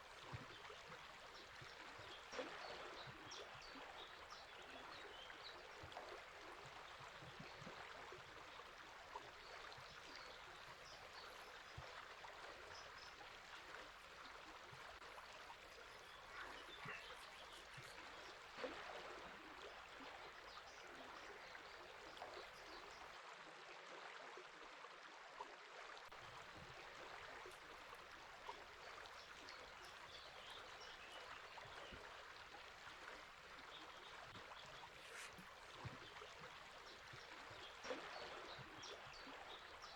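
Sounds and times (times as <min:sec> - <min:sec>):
river water flowing: 0:00.0 - 0:23.2, 0:25.9 - 0:39.9.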